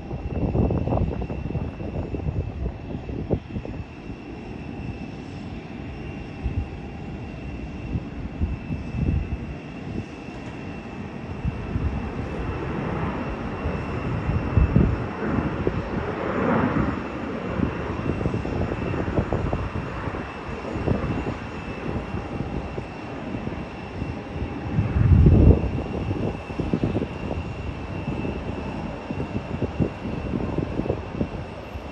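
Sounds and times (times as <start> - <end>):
jet engines whining: 0.0 - 31.9
wind buffeting microphone: 0.0 - 31.9.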